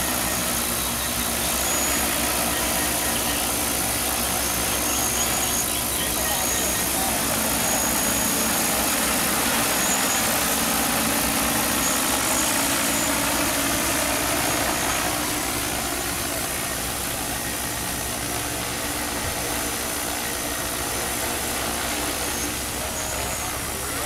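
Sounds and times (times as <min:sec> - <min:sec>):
drone rotors humming: 0:00.0 - 0:24.0.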